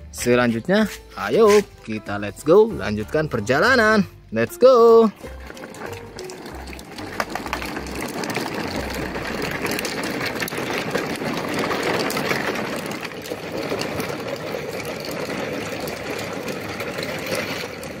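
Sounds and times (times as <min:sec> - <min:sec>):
toy truck wheels rolling on concrete: 0:00.0 - 0:18.0.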